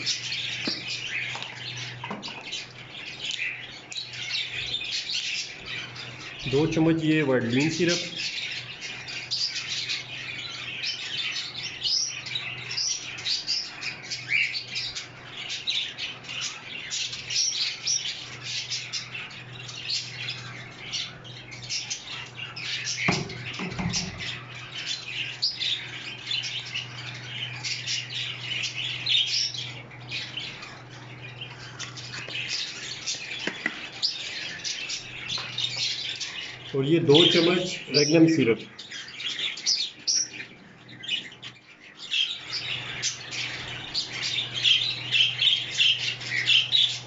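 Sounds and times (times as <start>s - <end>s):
cage birds chirping and squawking: 0.0s - 47.0s.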